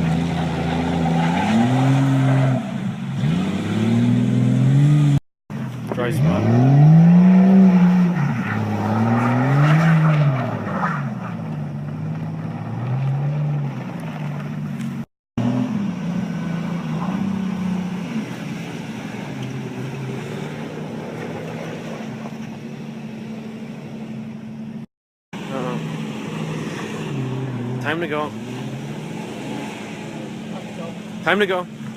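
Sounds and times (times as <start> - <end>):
vehicle engine revving: 0.0 - 24.5, 25.4 - 31.9.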